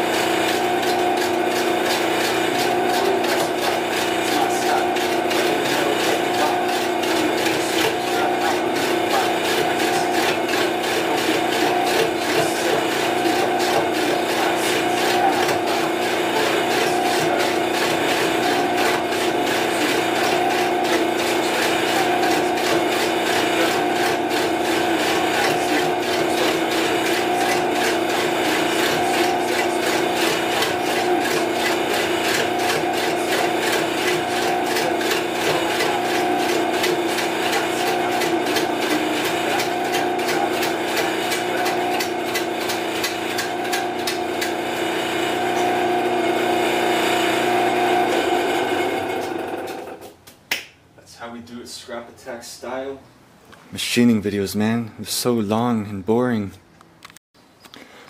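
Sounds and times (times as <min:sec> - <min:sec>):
lathe humming: 0:00.0 - 0:50.1.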